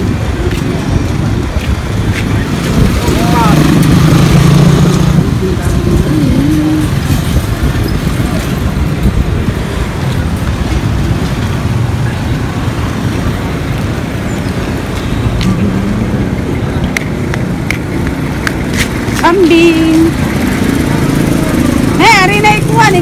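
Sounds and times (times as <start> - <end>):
motorcycle with sidecar passing: 0.0 - 17.0, 17.8 - 23.0
traffic rumble: 0.0 - 23.0.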